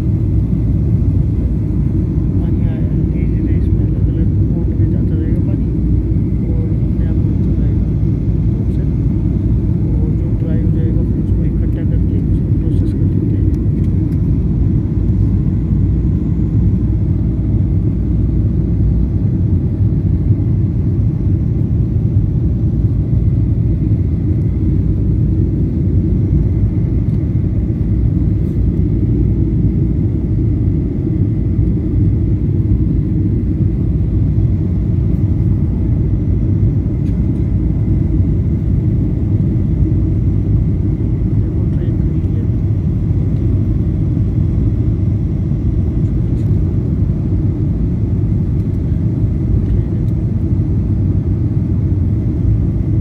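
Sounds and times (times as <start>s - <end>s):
faint steady whine: 0.0s - 53.0s
jet engines and airflow rumble: 0.0s - 53.0s.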